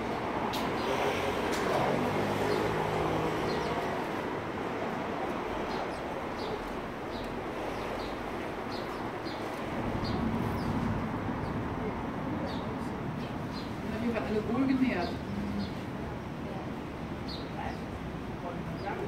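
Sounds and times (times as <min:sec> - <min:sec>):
street noise: 0:00.0 - 0:19.0
sparrows chirping: 0:00.2 - 0:19.0.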